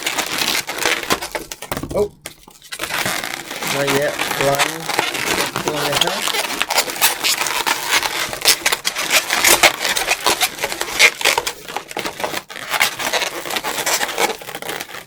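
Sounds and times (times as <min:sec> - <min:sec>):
balloons rubbing and crackling: 0:00.0 - 0:15.0.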